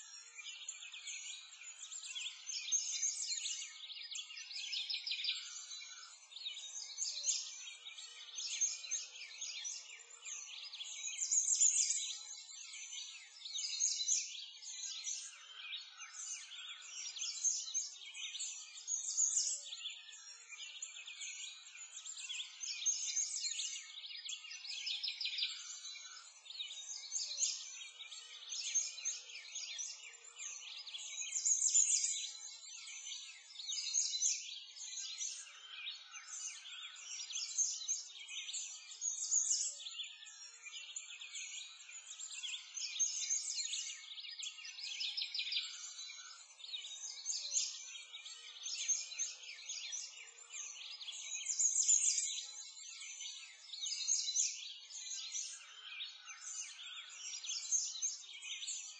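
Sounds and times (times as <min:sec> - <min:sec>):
small birds chirping and singing: 0:00.0 - 0:58.9.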